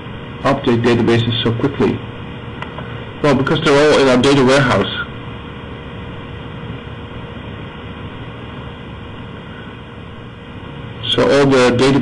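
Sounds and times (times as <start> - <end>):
faint hum tone: 0.0 - 12.0
steady audio line hiss: 0.0 - 12.0.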